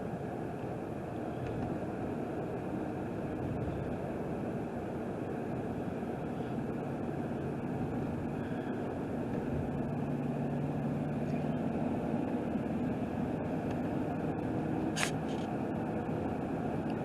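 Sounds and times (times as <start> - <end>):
road and engine noise in cabin: 0.0 - 17.0.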